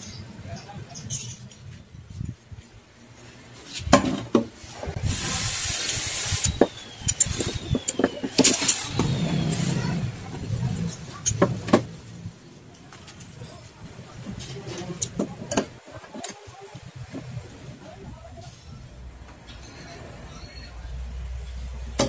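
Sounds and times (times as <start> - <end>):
steady rushing noise: 1.8 - 19.4.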